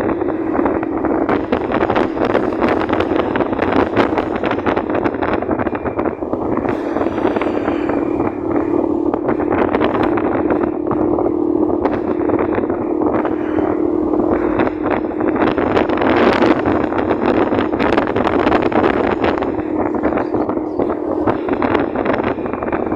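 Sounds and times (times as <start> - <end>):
motorcycle engine running: 0.0 - 22.9
wind buffeting microphone: 0.0 - 22.9.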